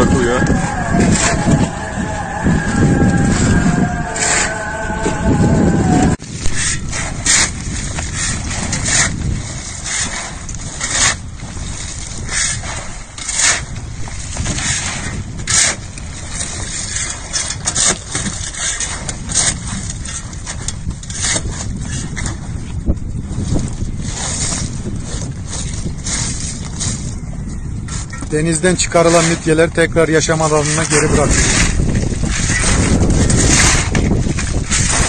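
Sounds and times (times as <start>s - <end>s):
low rumble: 0.0s - 28.4s, 30.9s - 35.0s.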